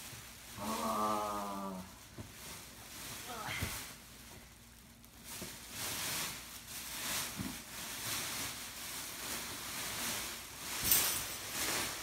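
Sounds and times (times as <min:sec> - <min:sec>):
plastic wrapping rustling: 0:00.0 - 0:12.0.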